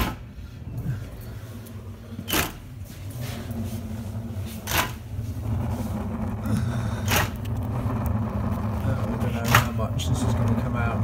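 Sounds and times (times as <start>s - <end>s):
low rumble: 0.2s - 11.0s.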